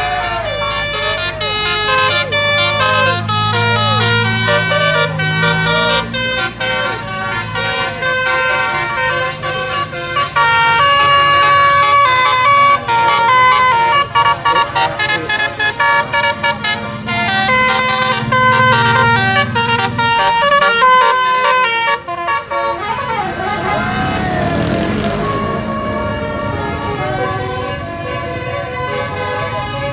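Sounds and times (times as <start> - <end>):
multi-tone musical bus horns: 0.0 - 29.9.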